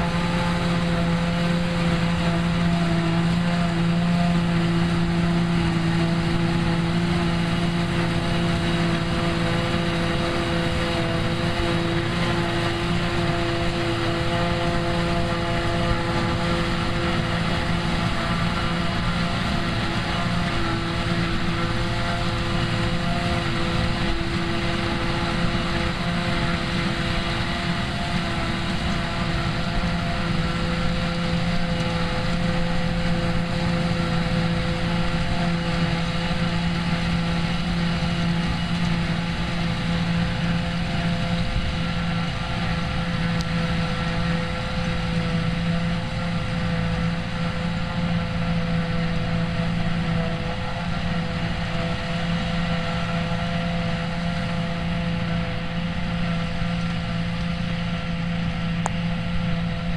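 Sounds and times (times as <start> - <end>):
drone of farm machinery: 0.0 - 59.9
held humming tones: 0.0 - 59.9.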